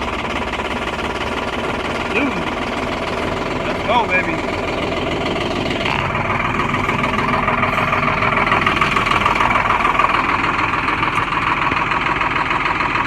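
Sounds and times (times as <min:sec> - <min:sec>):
diesel truck engine idling rough: 0:00.0 - 0:13.0.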